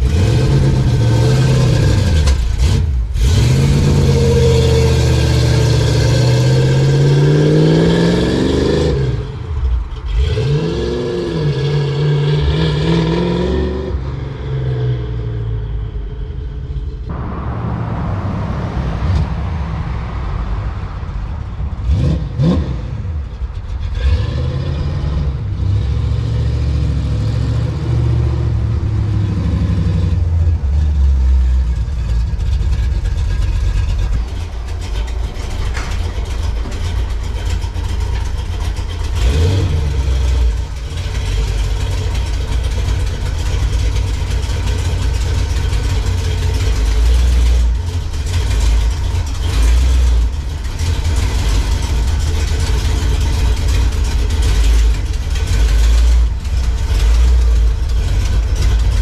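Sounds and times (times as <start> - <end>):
car engine exhaust rumble: 0.0 - 59.0.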